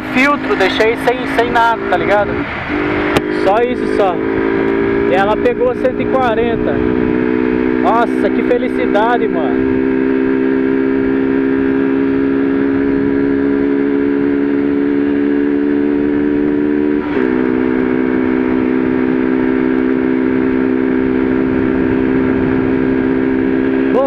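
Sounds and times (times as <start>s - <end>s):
motorcycle engine at high revs: 0.0s - 24.0s
wind rushing over microphone: 0.0s - 24.0s.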